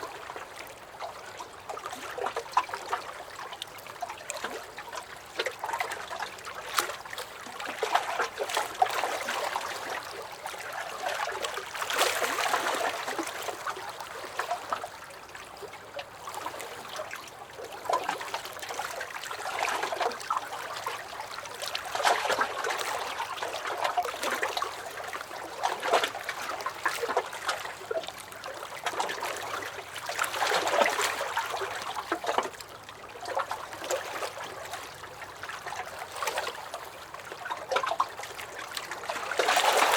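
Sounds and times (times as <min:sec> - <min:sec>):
waves lapping against a dock: 0:00.0 - 0:39.9.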